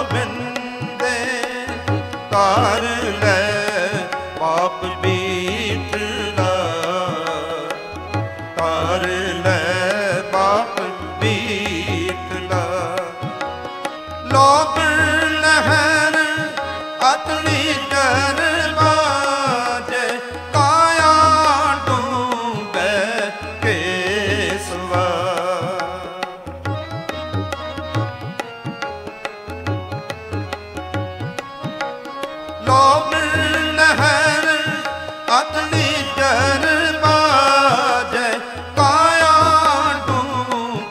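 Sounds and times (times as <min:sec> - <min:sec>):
tabla rhythm: 0:00.0 - 0:40.9.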